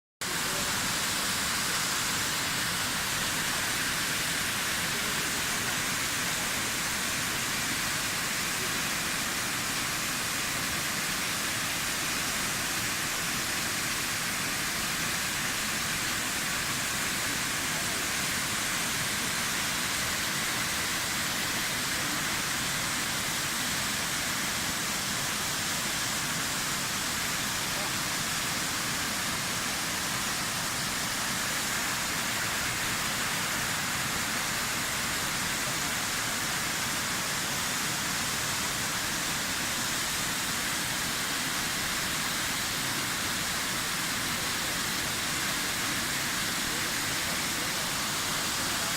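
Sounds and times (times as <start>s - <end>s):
waterfall rushing: 0.2s - 48.9s.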